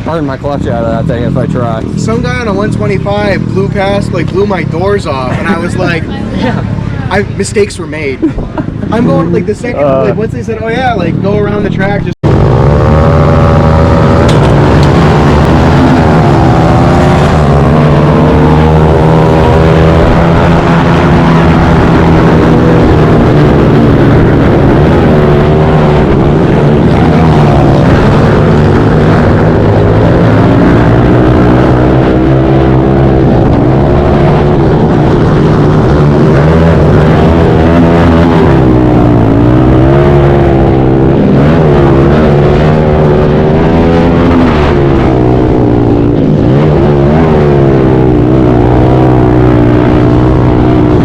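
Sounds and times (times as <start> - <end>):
pit bike engine revving: 0.0 - 7.6, 8.6 - 51.0
low drone: 0.0 - 51.0.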